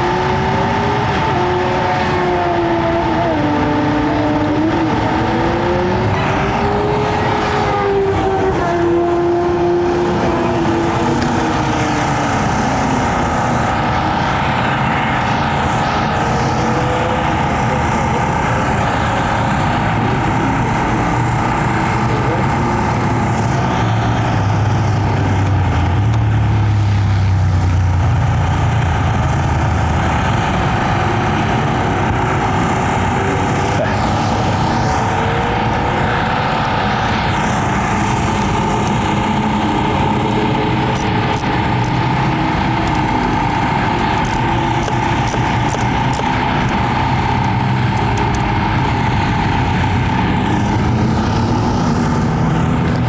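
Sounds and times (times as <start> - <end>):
motorcycle engines droning: 0.0 - 53.0.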